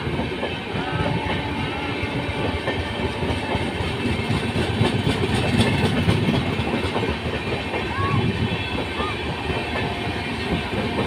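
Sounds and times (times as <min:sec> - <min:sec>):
train wheels clattering on rails: 0:00.0 - 0:11.0.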